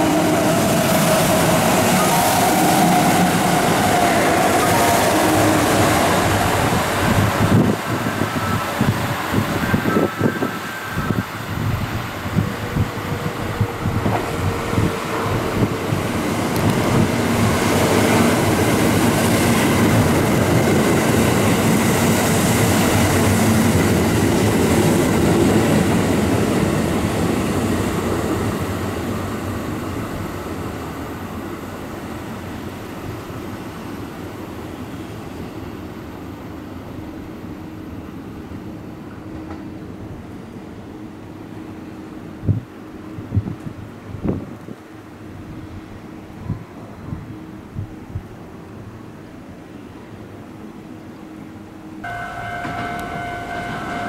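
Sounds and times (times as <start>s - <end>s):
train rushing past: 0.0s - 42.5s, 51.2s - 54.0s.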